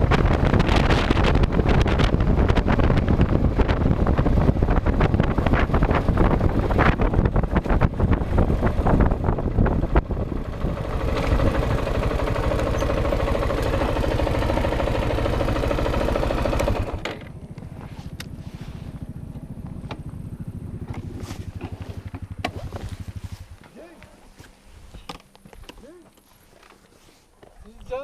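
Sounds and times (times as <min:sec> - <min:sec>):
wind noise: 0:00.0 - 0:23.6
motorcycle engine: 0:00.0 - 0:24.5.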